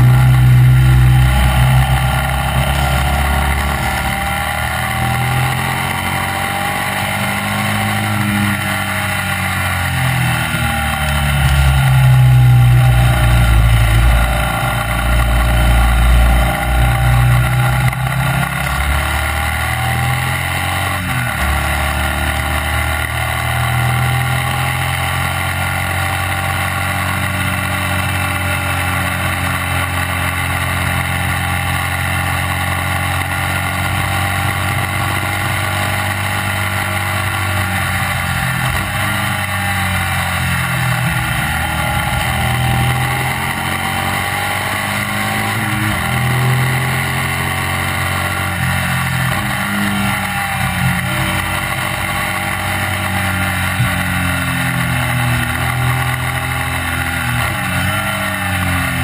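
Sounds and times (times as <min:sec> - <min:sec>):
racing sidecar engine at speed: 0:00.0 - 0:59.0.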